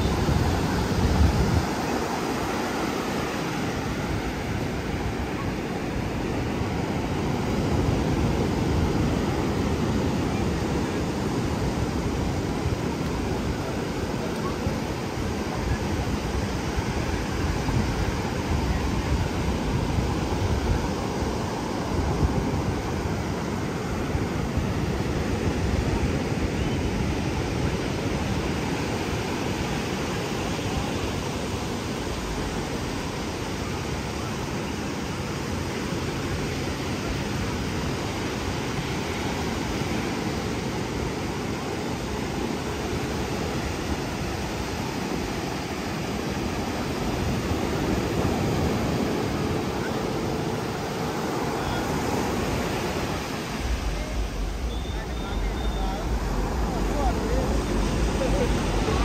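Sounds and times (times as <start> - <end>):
surf rushing: 0.0 - 59.0
wind: 0.0 - 59.0.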